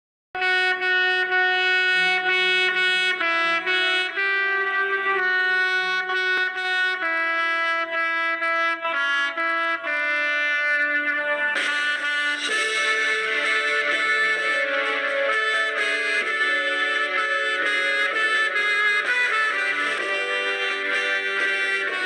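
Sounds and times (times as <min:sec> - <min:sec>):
low musical accompaniment: 0:00.4 - 0:22.0
trumpet-led brass melody: 0:00.4 - 0:22.0.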